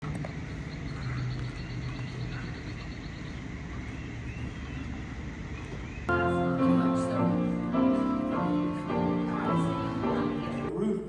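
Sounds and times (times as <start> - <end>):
low motor hum: 0.0 - 10.7.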